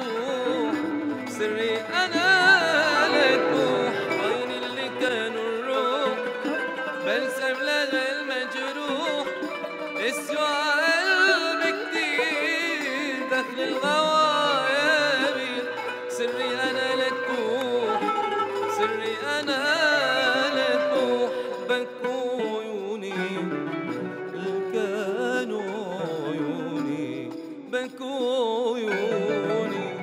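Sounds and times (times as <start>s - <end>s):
ensemble of lute zither flute and drum: 0.0s - 30.0s
man singing with vibrato: 0.0s - 30.0s.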